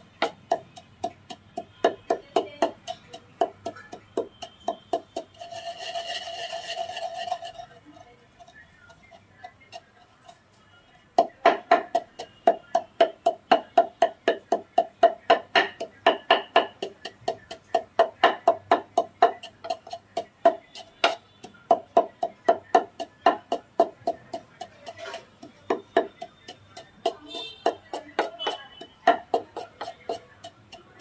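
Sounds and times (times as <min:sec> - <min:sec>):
wooden pestle pounding in mortar: 0:00.0 - 0:10.5, 0:11.1 - 0:31.0.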